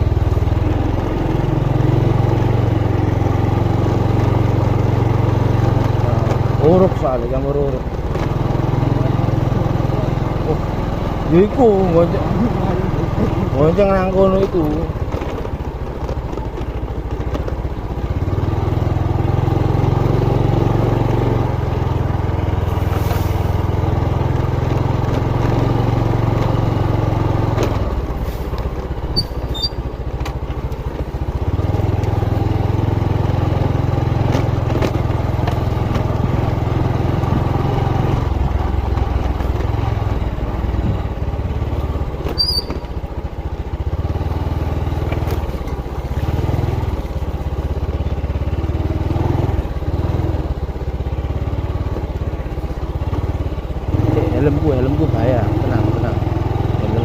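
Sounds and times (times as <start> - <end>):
motorcycle engine droning: 0.0 - 57.0.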